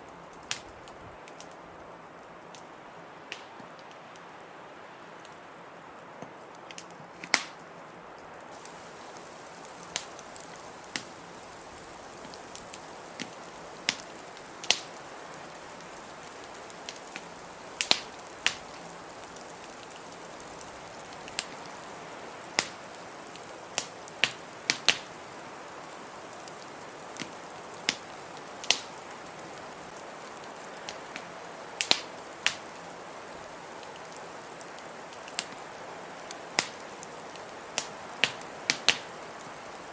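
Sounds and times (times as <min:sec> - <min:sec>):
steady rushing hiss: 0:00.0 - 0:39.9
wood fire crackling: 0:00.0 - 0:39.9.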